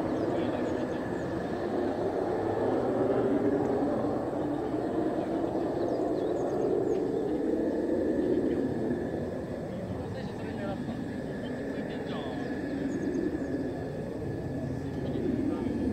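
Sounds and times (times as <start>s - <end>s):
jet engine roar: 0.0s - 15.9s.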